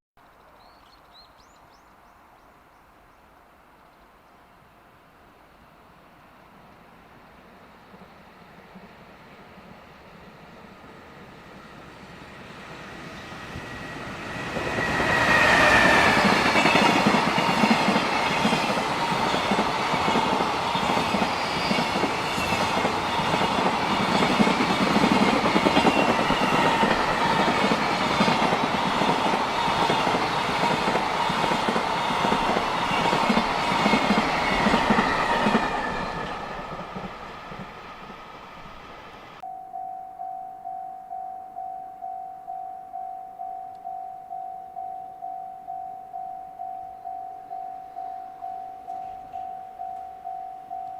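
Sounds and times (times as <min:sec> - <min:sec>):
freight train passing: 0:04.4 - 0:39.5, 0:42.0 - 0:50.9.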